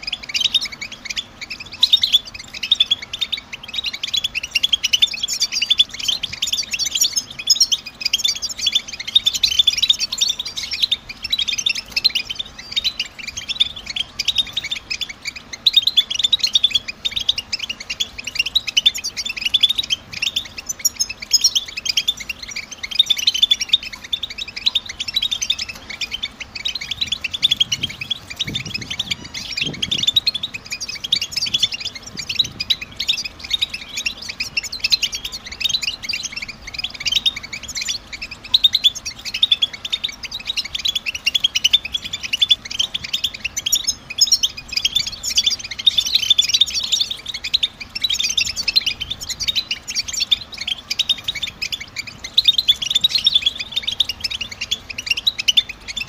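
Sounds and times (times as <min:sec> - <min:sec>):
goldfinch twittering: 0:00.0 - 0:56.0.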